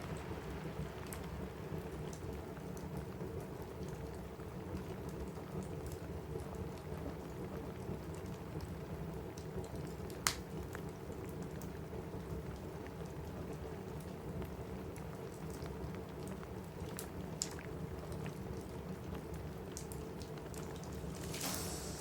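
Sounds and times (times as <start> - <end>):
rain on a roof: 0.0 - 22.0
wood fire crackling and popping: 0.0 - 22.0.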